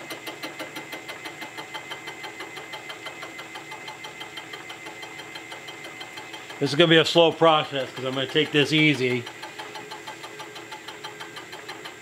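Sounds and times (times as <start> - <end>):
milling machine whine pulsing: 0.0 - 12.0.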